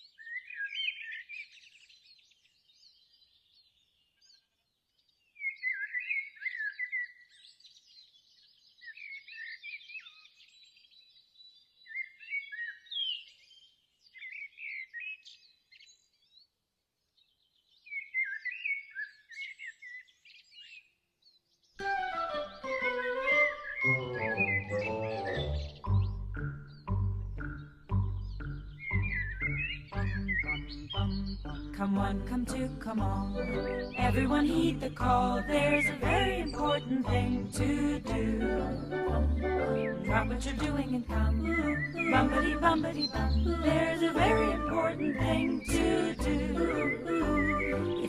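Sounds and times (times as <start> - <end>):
songbirds warbling: 0.0 - 16.5, 17.2 - 48.0.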